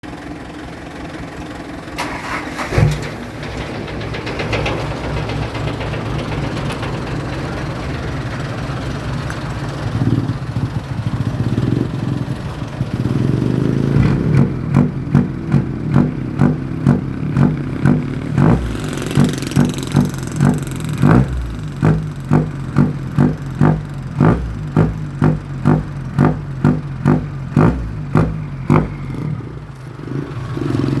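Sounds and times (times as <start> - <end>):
truck engine idling and revving: 0.0 - 31.0.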